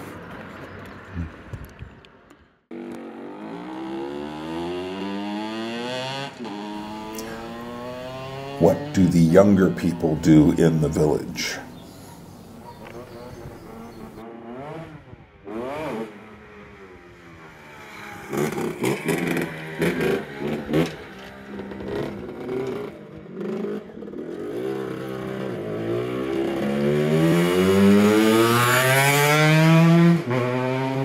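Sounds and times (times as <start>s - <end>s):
engine revving: 2.7s - 11.9s, 12.6s - 31.0s.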